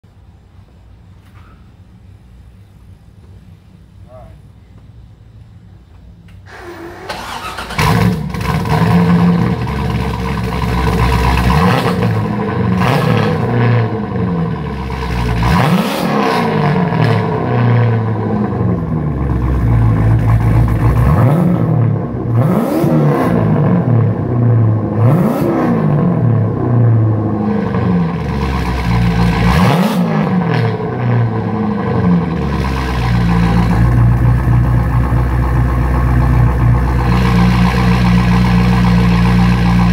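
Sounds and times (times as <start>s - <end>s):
car engine starting and idling: 6.3s - 39.9s
engine throttle blips: 6.3s - 39.9s.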